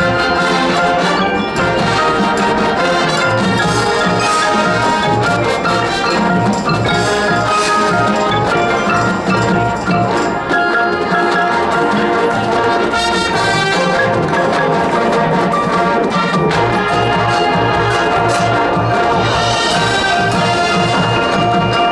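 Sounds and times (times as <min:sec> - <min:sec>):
mallet percussion: 0:00.0 - 0:21.9
marching band playing: 0:00.0 - 0:21.9.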